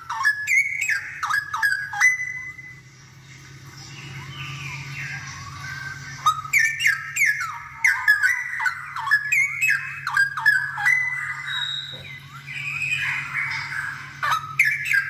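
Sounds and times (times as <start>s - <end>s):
bird singing whistled notes: 0.0s - 2.9s, 3.8s - 15.0s
steady low hum: 0.0s - 15.0s.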